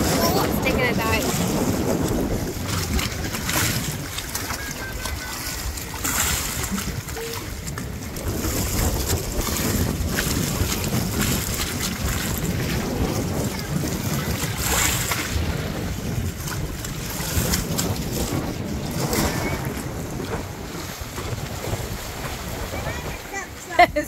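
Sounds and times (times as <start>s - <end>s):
waves washing against pilings: 0.0s - 24.0s
wind buffeting microphone: 0.0s - 24.0s.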